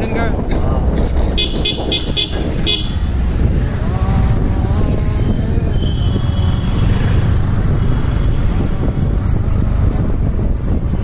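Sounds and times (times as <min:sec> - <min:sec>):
wind and road rumble: 0:00.0 - 0:11.0.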